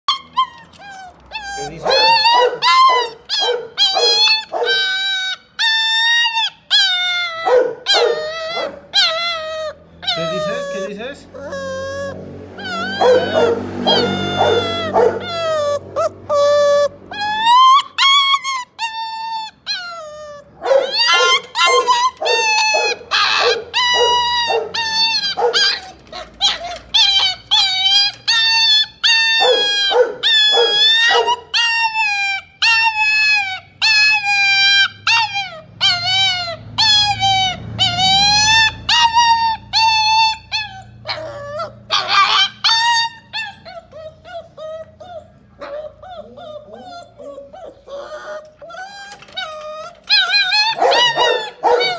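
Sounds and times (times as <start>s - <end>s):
puppy whining and crying: 0.0s - 51.9s
puppy yelping: 0.0s - 51.9s.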